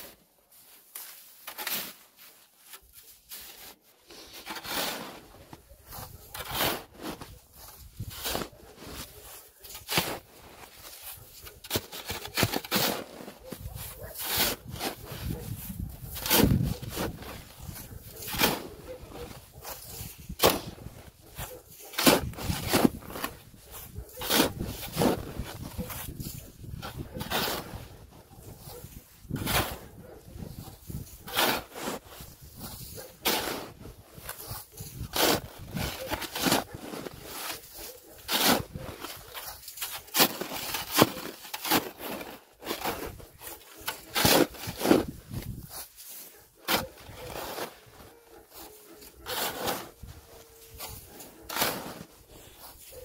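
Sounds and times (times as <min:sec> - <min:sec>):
boots crunching snow: 0:00.0 - 0:53.0
snow shovel digging: 0:00.0 - 0:53.0.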